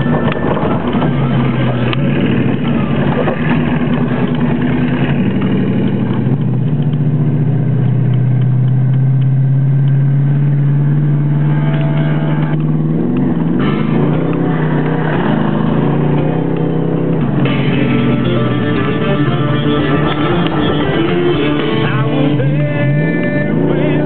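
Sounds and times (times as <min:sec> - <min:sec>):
car engine running hard: 0:00.0 - 0:24.0.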